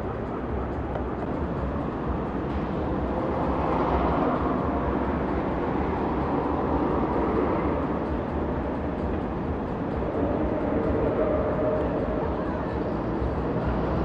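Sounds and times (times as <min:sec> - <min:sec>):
city low rumble: 0:00.0 - 0:14.0.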